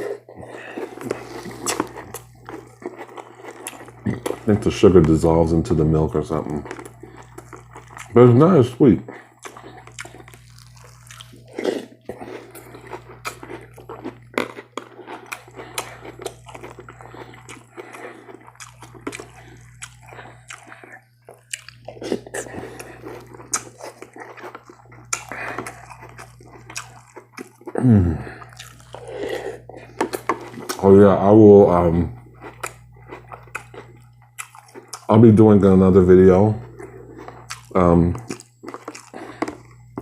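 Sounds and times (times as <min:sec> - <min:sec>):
chewing crunchy cereal: 0:00.0 - 0:40.0.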